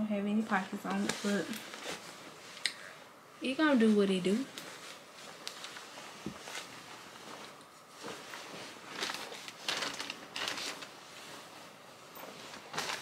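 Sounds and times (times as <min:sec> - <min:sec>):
jacket fabric rustling: 0:00.3 - 0:13.0.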